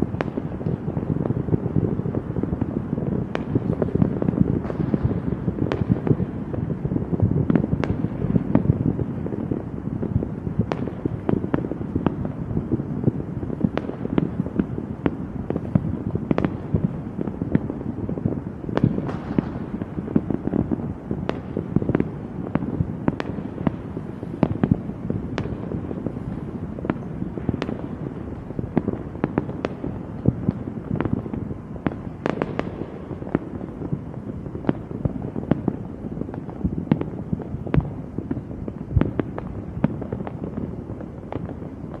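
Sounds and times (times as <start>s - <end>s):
fireworks booming and cracking: 0.0s - 42.0s.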